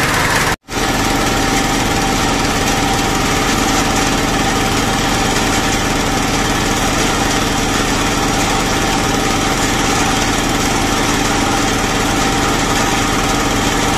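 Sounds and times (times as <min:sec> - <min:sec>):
small engine running steadily: 0:00.0 - 0:13.9.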